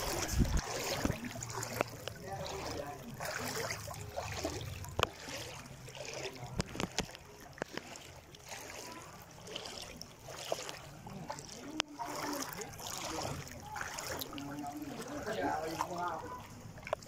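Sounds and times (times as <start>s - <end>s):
wading through shallow water: 0.0s - 17.0s.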